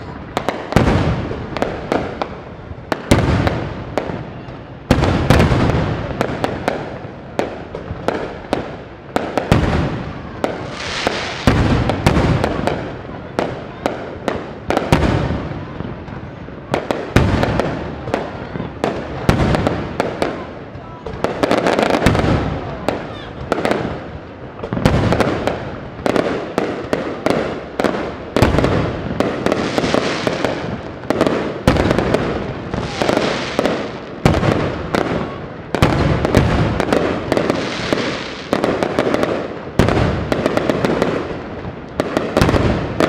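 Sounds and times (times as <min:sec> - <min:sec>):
fireworks bursting with sharp bangs: 0:00.0 - 0:43.0
fireworks crackle: 0:00.0 - 0:43.0.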